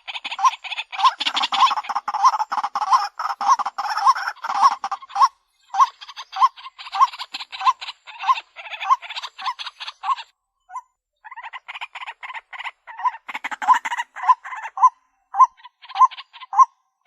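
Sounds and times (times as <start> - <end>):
waterhen harsh croaking calls: 0.0 - 10.3, 11.2 - 16.8.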